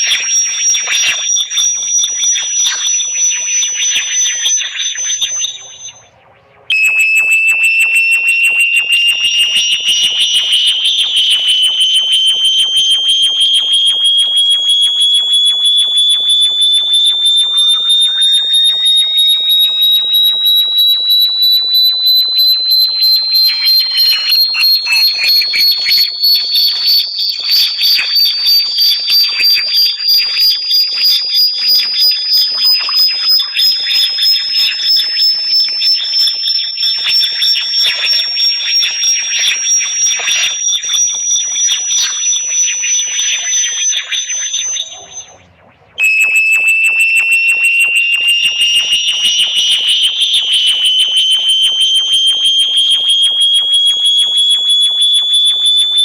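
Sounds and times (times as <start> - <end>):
pulsing high-pitched electronic tone: 0.0 - 56.0.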